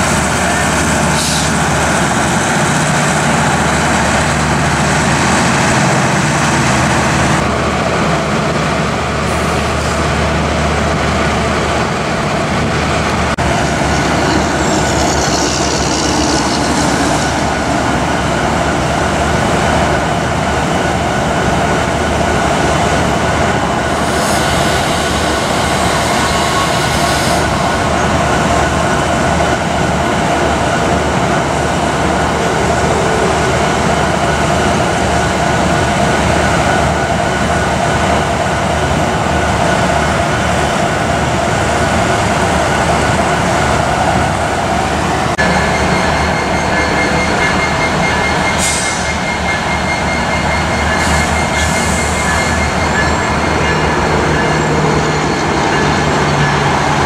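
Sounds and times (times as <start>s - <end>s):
diesel train rumbling past: 0.0s - 57.0s.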